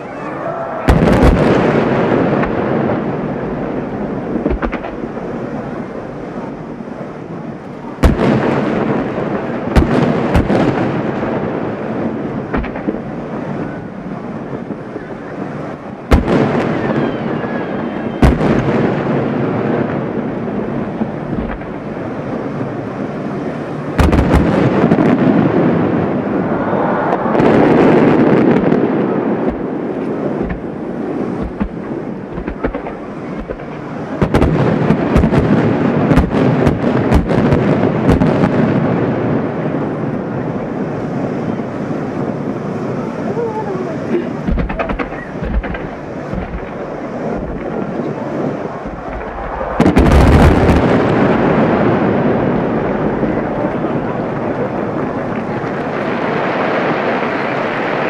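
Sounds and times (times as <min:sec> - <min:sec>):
distant firework booms: 0:00.0 - 0:06.6, 0:08.0 - 0:15.3, 0:16.0 - 0:23.1, 0:23.9 - 0:42.6, 0:44.2 - 0:58.0
continuous noisy rumble: 0:00.0 - 0:58.0.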